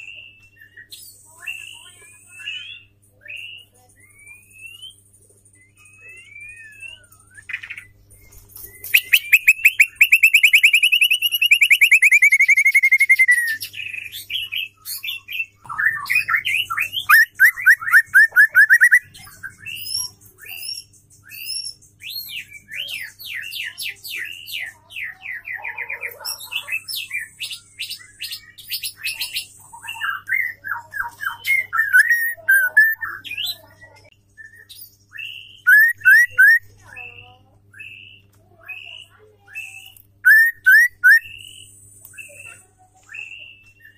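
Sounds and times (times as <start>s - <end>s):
bird singing trills and whistles: 0.0s - 43.9s.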